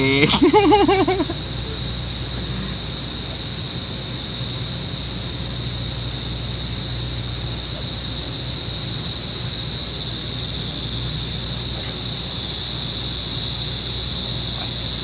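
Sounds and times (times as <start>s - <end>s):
insect chorus buzzing: 0.0s - 15.0s
low steady hum: 0.0s - 15.0s.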